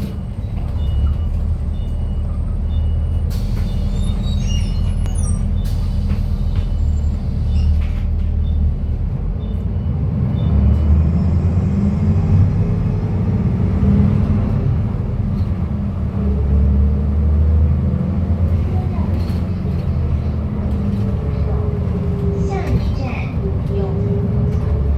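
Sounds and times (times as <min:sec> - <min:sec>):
bus diesel engine at high revs: 0:00.0 - 0:24.9.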